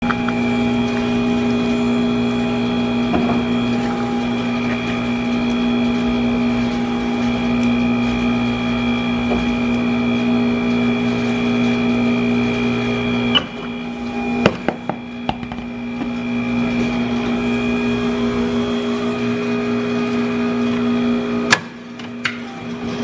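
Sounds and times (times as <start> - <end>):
electric motor humming: 0.0 - 21.5.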